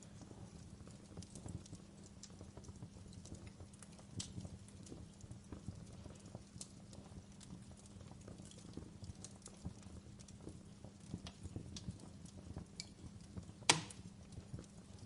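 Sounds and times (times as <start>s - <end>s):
low background noise: 0.0s - 15.0s
wood fire crackling: 0.0s - 15.0s.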